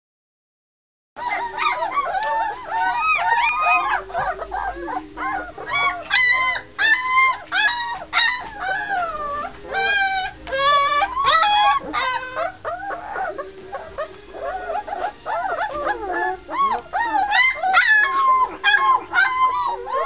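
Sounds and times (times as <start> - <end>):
puppies whining and yelping: 1.2 - 20.0.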